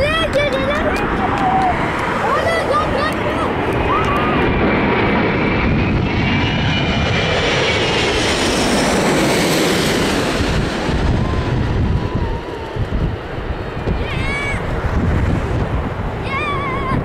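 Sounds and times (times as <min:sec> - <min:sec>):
jet engines passing overhead: 0:00.0 - 0:17.0.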